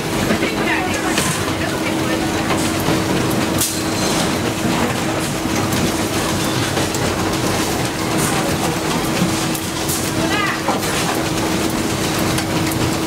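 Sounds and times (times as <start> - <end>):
production line machinery running: 0.0 - 13.0.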